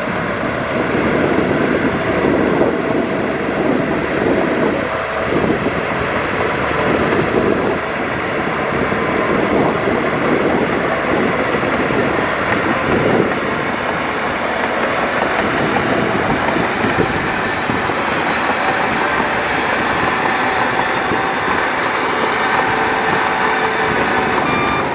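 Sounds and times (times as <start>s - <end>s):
diesel engines running: 0.0s - 24.9s.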